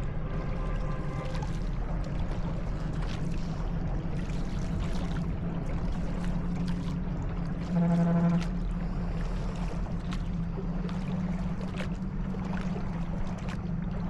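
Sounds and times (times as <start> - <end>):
steady low hum: 0.0 - 14.0
water splashing along boat hull: 0.0 - 14.0.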